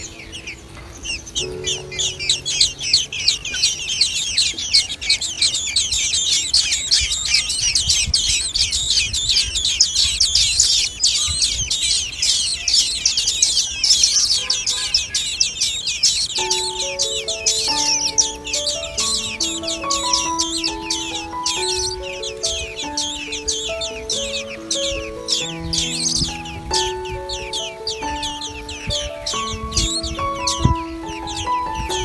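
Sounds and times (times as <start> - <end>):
nestlings chirping chorus: 0.0 - 32.0.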